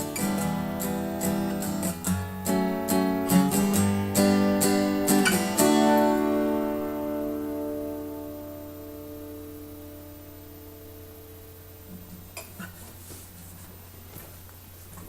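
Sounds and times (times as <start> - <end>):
acoustic guitar strumming: 0.0 - 12.8.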